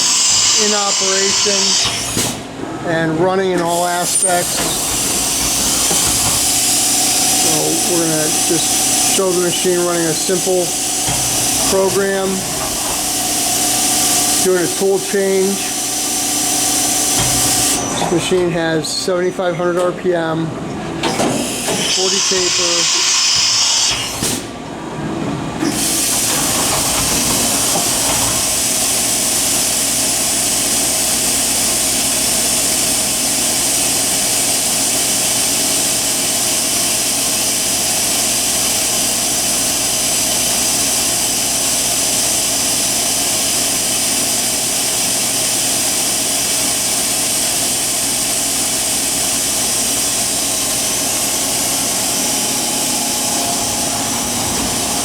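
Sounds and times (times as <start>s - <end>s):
machining center hum and whine: 0.0s - 55.0s.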